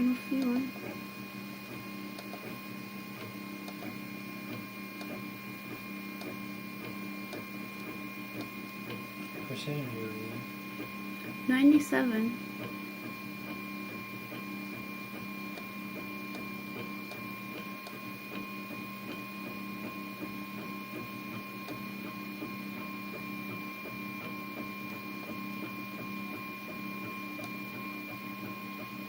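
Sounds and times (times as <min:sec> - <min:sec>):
printer mechanical hum with whine: 0:00.0 - 0:29.0.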